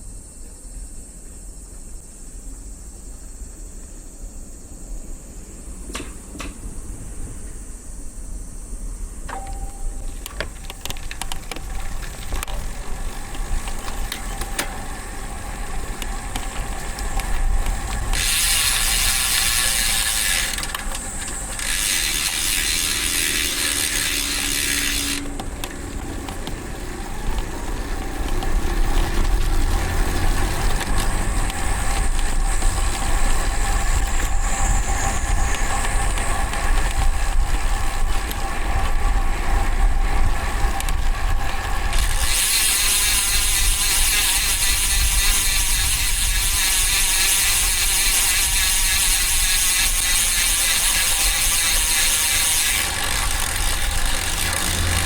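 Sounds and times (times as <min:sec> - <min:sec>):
low road and wind rumble: 0:00.0 - 0:55.0
bike hub ratchet buzz: 0:09.3 - 0:55.0.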